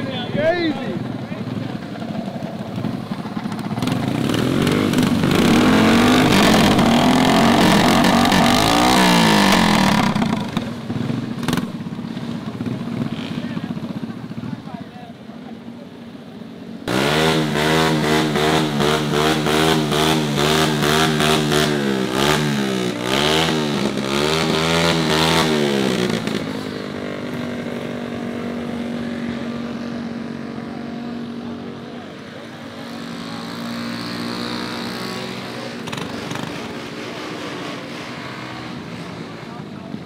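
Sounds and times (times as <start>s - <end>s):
mini bike engine revving: 0.0s - 14.5s, 16.9s - 40.0s.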